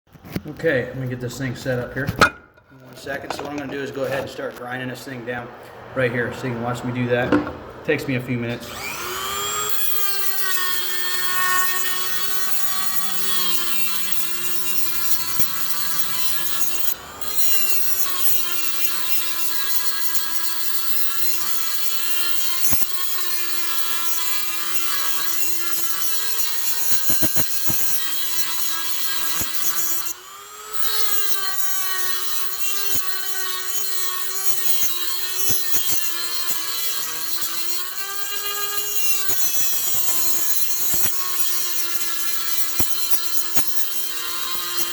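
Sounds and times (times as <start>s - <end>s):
rotary tool grinding metal: 8.6s - 44.9s.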